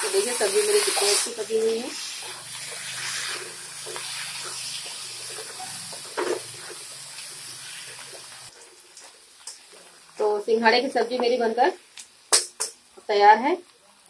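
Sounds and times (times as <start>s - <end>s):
food sizzling in pan: 0.0s - 14.0s.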